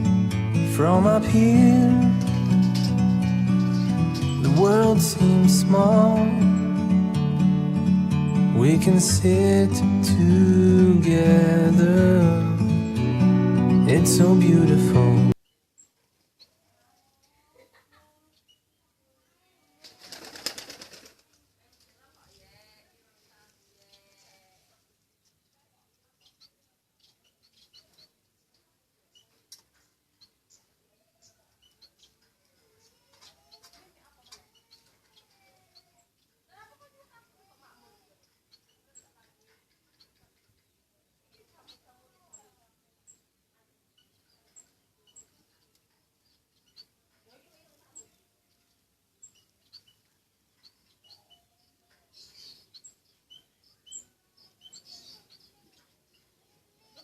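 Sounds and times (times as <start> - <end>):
small bird chirping: 0.0 - 17.4, 18.2 - 19.4, 25.2 - 36.6, 37.5 - 57.0.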